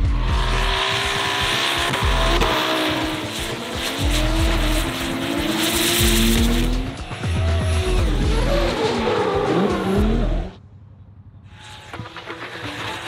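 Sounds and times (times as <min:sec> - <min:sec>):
car engines revving: 0:00.0 - 0:10.6
music with heavy bass: 0:00.0 - 0:10.6.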